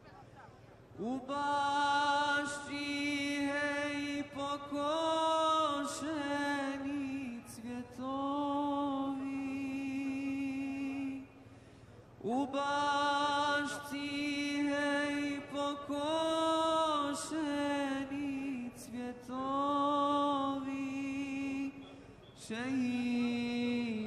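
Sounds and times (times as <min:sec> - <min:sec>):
man chanting: 0:01.0 - 0:11.4, 0:12.2 - 0:24.0.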